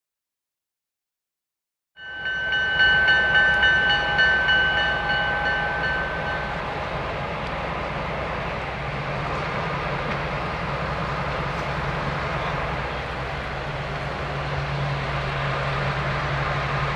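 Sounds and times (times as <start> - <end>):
train rumbling past: 2.0 - 16.9.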